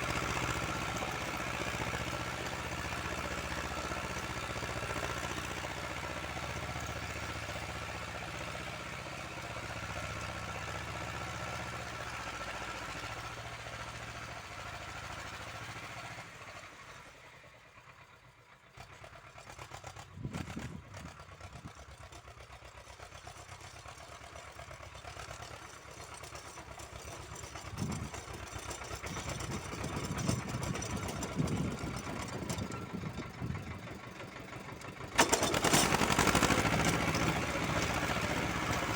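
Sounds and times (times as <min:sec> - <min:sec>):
small tractor engine chugging: 0:00.0 - 0:38.9.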